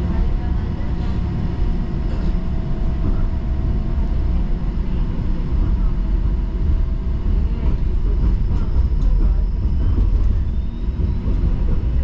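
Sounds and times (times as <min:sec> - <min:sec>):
streetcar rumble: 0:00.0 - 0:12.0.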